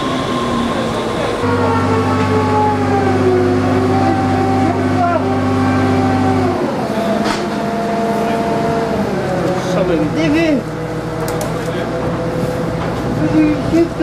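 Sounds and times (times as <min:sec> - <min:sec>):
crane engine running: 0:00.0 - 0:14.0.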